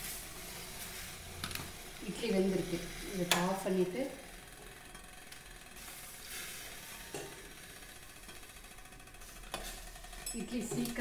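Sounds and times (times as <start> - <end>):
steaming pot hissing: 0.0 - 11.0.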